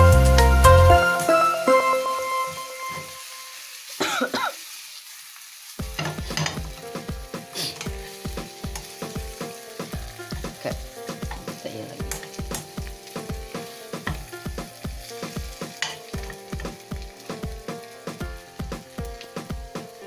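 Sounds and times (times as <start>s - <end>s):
background music with quick beat: 0.0s - 3.1s, 5.8s - 20.0s
food sizzling in a wok: 0.0s - 20.0s.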